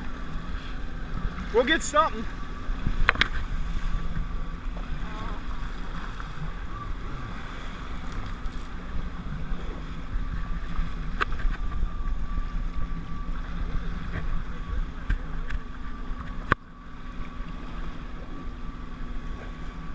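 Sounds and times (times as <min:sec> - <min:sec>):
wind buffeting microphone: 0:00.0 - 0:18.4
jet ski engine droning: 0:00.0 - 0:19.9.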